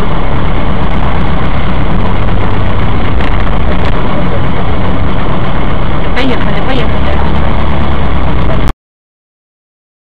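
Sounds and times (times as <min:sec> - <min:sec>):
car engine and road noise: 0:00.0 - 0:08.8.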